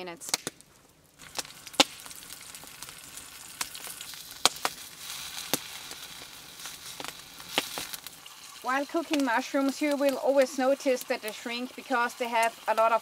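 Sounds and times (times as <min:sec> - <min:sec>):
mushrooms sizzling in pan: 0:00.0 - 0:13.0.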